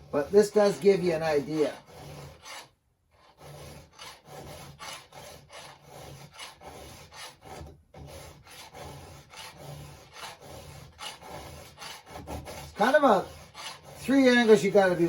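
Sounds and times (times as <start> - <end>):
file rasping on chainsaw chain: 0.0 - 15.0.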